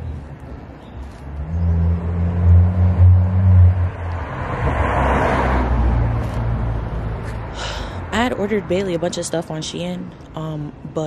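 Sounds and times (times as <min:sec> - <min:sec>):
vehicle passing rush: 0:00.0 - 0:09.8
vehicle engine hum: 0:00.0 - 0:11.0.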